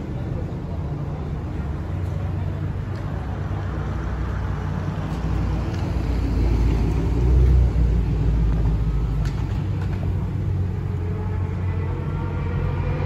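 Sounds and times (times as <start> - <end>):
sports car engines idling: 0.0 - 12.7.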